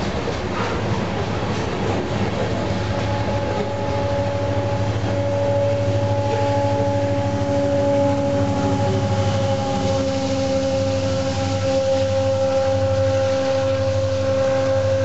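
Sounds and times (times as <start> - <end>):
train wheels rumbling on rail: 0.0 - 15.0
high whine of held pitches: 2.6 - 15.0.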